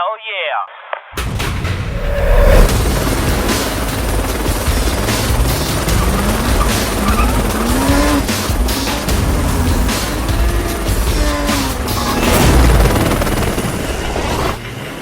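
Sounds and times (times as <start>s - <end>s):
background music: 1.2s - 15.0s
car engine revving: 1.9s - 14.7s
helicopter rotor: 2.0s - 15.0s.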